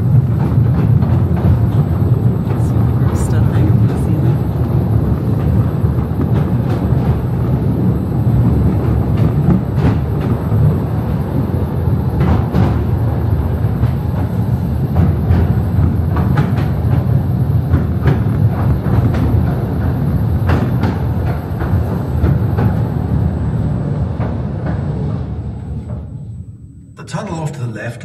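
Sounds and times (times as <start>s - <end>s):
wheels clacking on rail joints: 0.0s - 26.0s
train low rumble: 0.0s - 28.0s.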